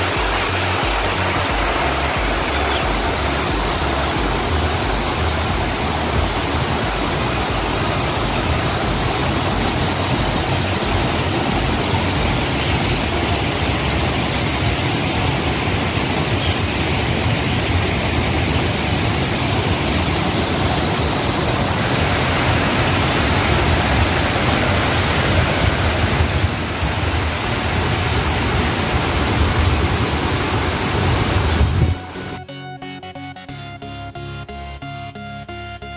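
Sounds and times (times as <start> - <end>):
flowing water rushing: 0.0 - 32.4.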